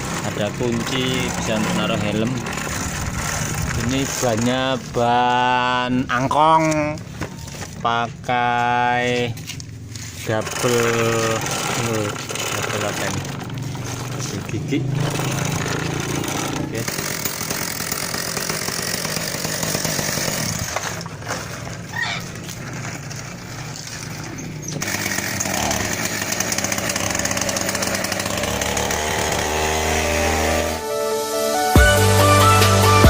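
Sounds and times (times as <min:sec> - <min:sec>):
chainsaw engine running: 0:00.0 - 0:30.9.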